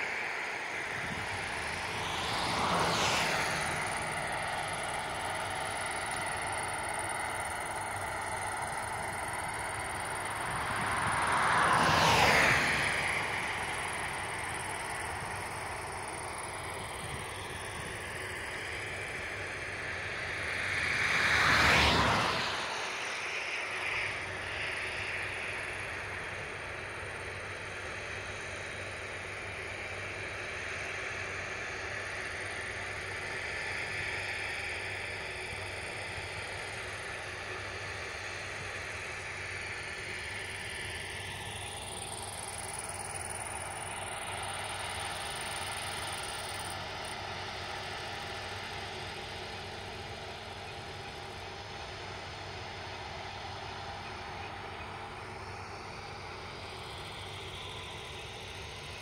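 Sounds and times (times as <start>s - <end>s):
distant engine drone: 0.0s - 59.0s.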